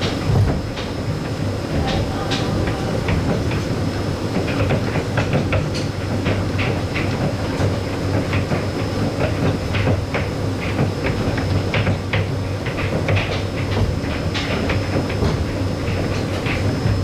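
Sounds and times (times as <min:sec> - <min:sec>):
monorail car running on track: 0:00.0 - 0:17.0.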